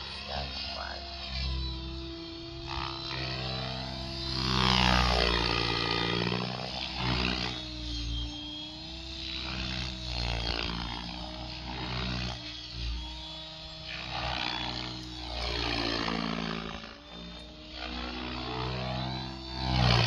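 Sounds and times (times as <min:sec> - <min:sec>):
rc helicopter rotor and motor: 0:00.0 - 0:20.0.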